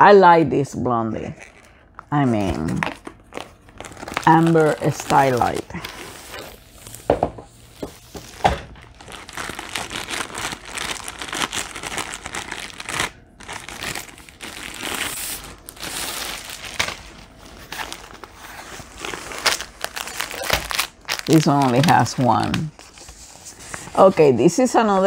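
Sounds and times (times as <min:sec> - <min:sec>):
plastic wrapping crinkling: 0:01.3 - 0:25.0.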